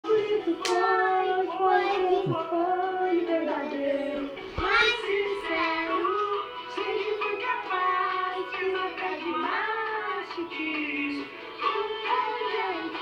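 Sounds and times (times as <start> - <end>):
young child singing: 0.1 - 13.0.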